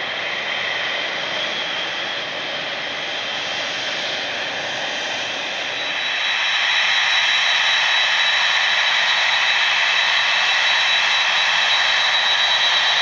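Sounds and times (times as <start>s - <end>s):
jet engines whining: 0.0s - 13.0s
louder jet: 0.0s - 13.0s.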